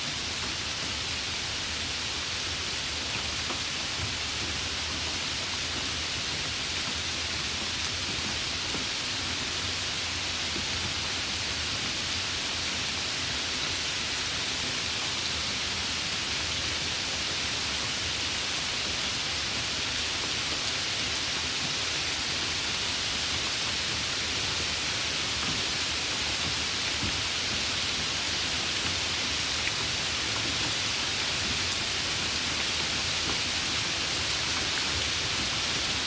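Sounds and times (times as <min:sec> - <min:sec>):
light rain hissing: 0:00.1 - 0:36.0.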